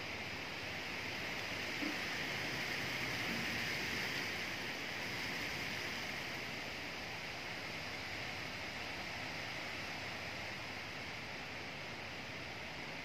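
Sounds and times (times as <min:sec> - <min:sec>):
wind rustling leaves: 0:00.0 - 0:13.0.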